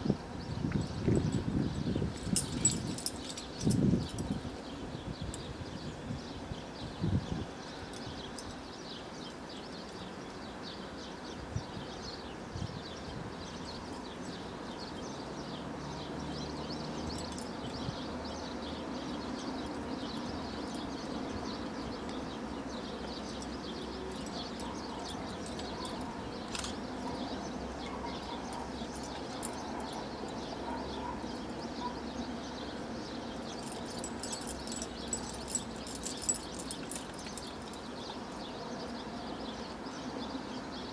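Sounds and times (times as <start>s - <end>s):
outdoor background hum: 0.0s - 40.9s
small birds chirping: 0.4s - 40.9s.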